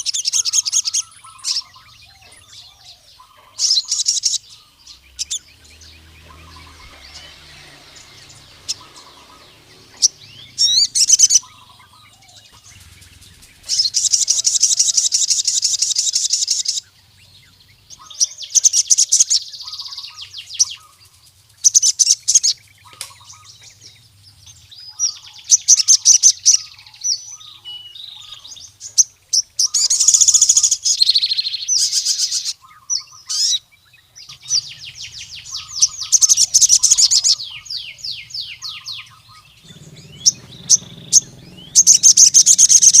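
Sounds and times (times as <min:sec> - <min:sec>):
bird trilling chirps: 0:00.0 - 0:43.0.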